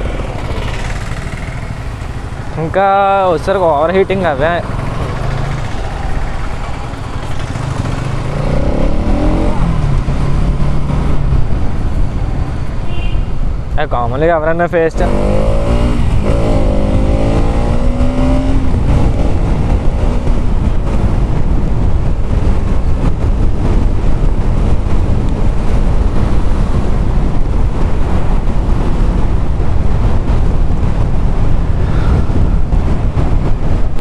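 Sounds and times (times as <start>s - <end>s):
motorcycle engine running: 0.0s - 13.7s, 14.8s - 34.0s
wind buffeting microphone: 0.0s - 34.0s.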